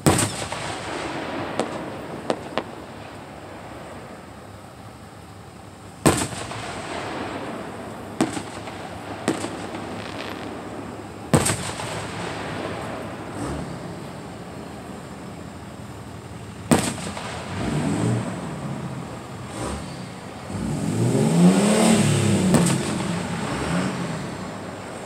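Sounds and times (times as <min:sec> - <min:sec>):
distant firework booms: 0:00.0 - 0:04.8, 0:06.0 - 0:25.0.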